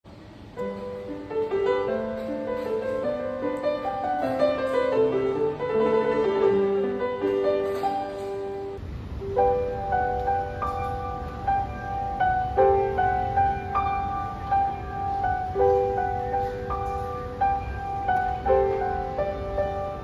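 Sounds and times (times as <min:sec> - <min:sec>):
solo piano melody: 0:00.4 - 0:20.0.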